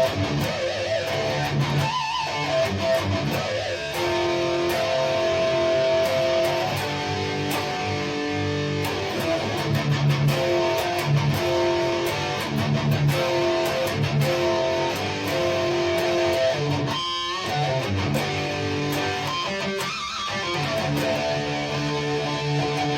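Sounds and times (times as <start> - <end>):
electric guitar chords: 0.0 - 22.9.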